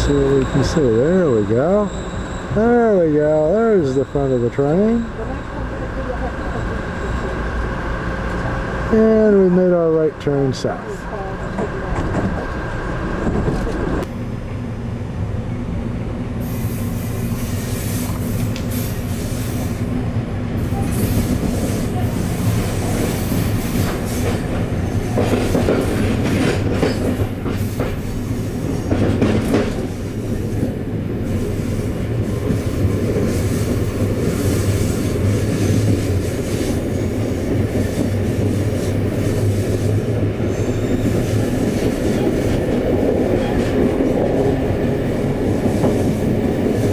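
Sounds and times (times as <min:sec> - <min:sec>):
train wheels rumbling on rail: 0:00.0 - 0:46.9.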